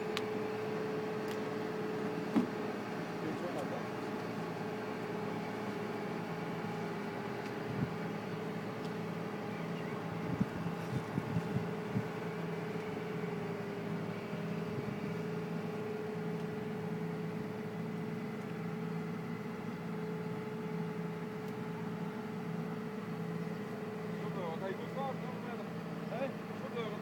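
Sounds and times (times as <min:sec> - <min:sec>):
harvesting machine motor humming: 0:00.0 - 0:27.0.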